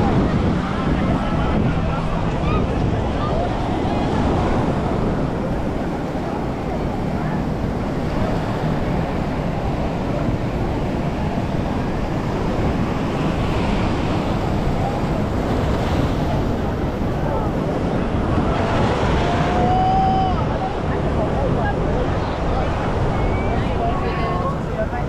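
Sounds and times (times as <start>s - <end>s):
faint distant voices: 0.0s - 25.0s
ocean surf rushing: 0.0s - 25.0s
wind buffeting microphone: 0.0s - 25.0s.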